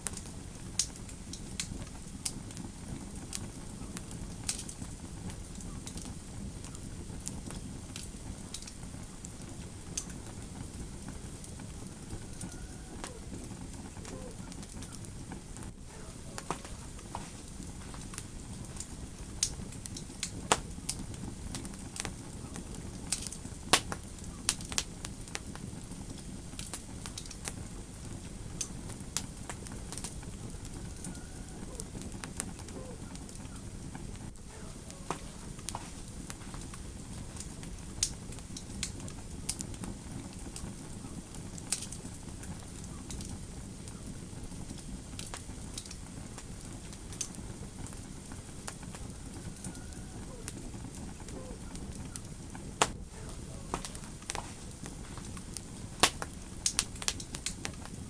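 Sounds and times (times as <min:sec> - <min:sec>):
low fire rumble: 0:00.0 - 0:58.0
wood fire crackling and popping: 0:00.0 - 0:58.0.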